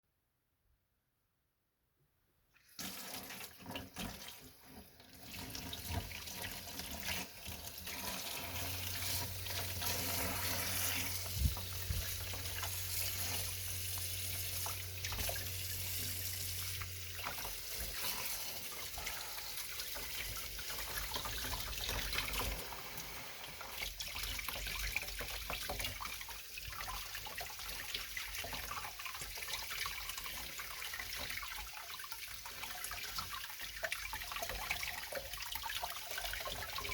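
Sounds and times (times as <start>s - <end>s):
tap water running into sink: 2.6s - 36.9s.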